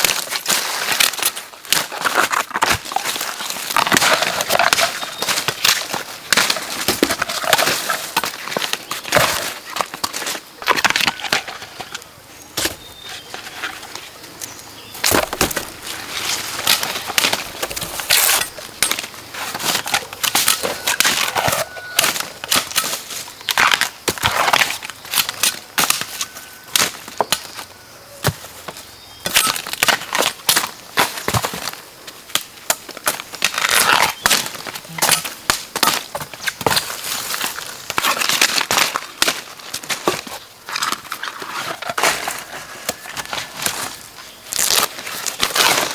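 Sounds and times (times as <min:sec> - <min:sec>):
crunching and snapping: 0:00.0 - 0:13.0, 0:14.4 - 0:45.9.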